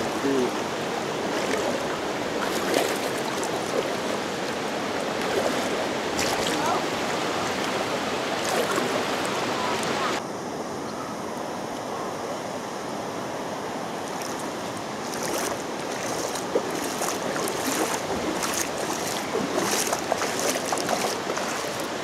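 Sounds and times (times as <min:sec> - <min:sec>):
creek water flowing: 0:00.0 - 0:10.2, 0:11.5 - 0:22.0
water splashes: 0:00.0 - 0:10.2, 0:14.0 - 0:22.0.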